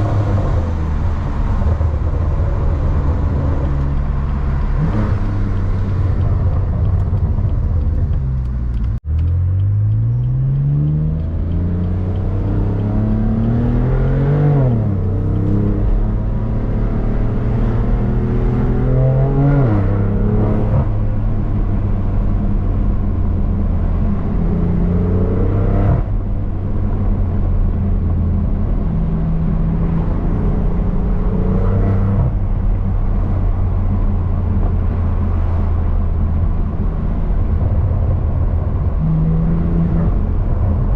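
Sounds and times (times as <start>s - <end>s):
car engine accelerating through gears: 0.0s - 40.9s.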